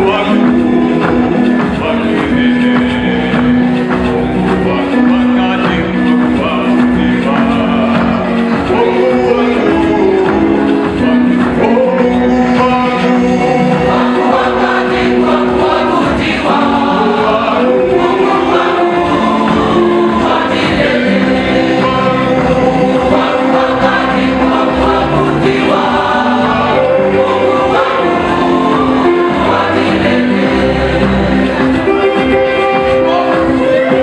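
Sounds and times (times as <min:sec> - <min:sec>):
choir singing gospel: 0:00.0 - 0:34.0.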